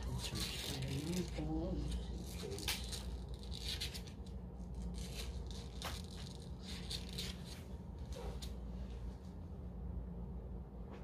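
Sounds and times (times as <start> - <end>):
faint rustles and scrapes: 0.0 - 9.5
low hum: 0.0 - 11.0.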